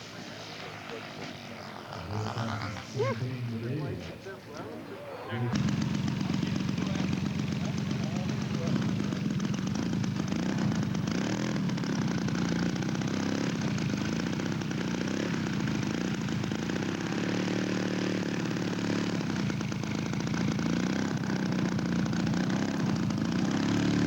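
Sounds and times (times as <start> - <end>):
model airplane engine: 0.0 - 3.6, 5.4 - 24.0.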